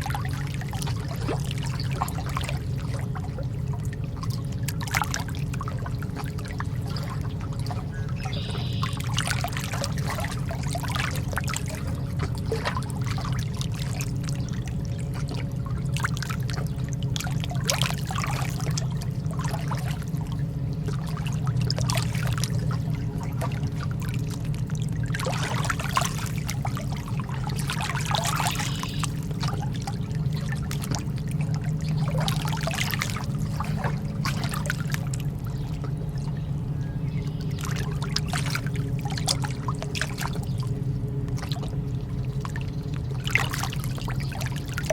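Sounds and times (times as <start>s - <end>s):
ocean water lapping: 0.0s - 44.9s
steady low hum: 0.0s - 44.9s.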